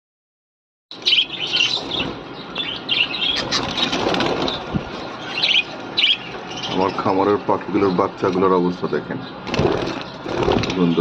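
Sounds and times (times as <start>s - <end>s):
birds chirping: 0.9s - 11.0s.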